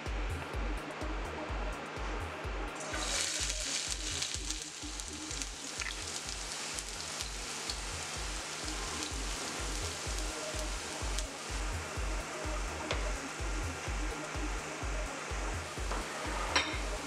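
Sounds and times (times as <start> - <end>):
background music with pulsing beat: 0.0 - 17.0
onion sizzling in hot oil: 2.8 - 17.0.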